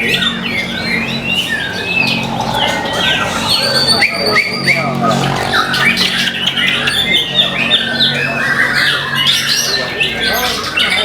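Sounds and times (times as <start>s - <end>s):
bird singing fast notes: 0.0s - 11.0s.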